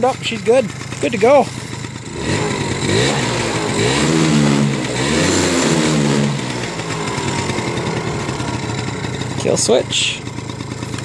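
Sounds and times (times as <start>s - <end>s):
moped engine revving and idling: 0.0s - 11.0s.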